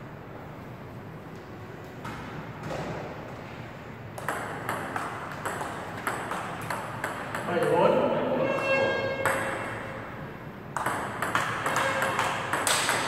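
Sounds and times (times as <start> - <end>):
table tennis rally: 1.9 - 13.0.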